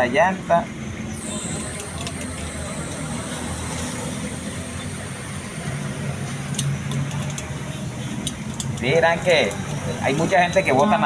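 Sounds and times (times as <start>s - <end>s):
motor vehicle rumbling: 0.0s - 11.0s
road traffic noise: 0.0s - 11.0s.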